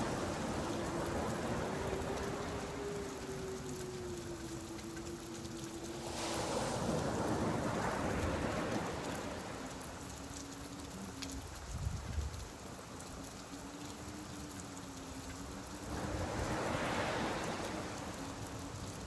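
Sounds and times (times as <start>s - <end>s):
ocean surf: 0.0s - 11.5s, 12.8s - 19.0s
rain falling: 0.0s - 19.0s.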